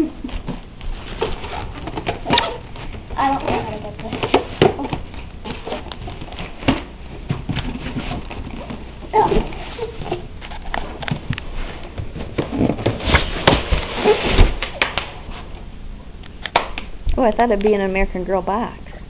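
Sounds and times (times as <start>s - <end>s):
cardboard flaps rustling: 0.0s - 15.6s.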